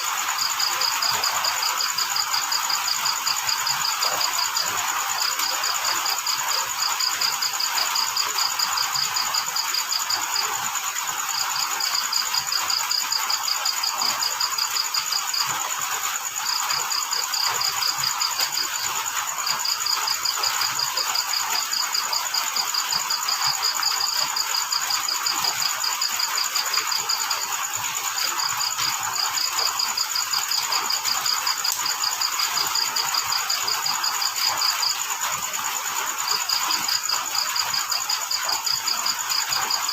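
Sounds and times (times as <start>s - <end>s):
crickets chirping: 0.0s - 39.9s
steady hiss: 0.0s - 39.9s.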